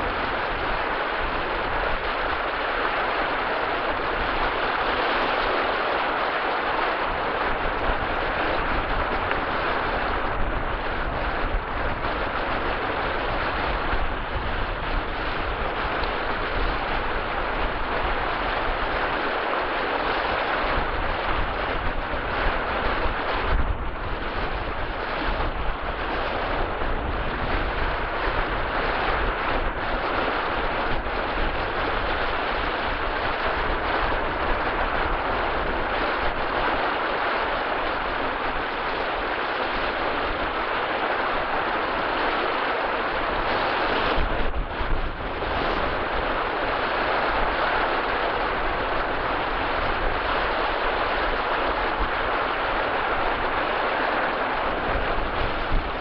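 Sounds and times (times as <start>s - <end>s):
surf washing up a beach: 0.0s - 56.0s
wind rumbling on microphone: 0.0s - 56.0s.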